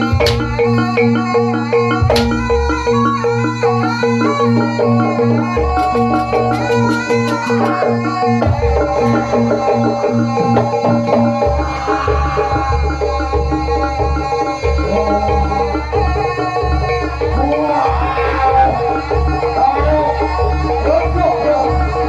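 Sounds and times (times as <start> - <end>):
percussion ensemble with gongs: 0.0 - 22.0.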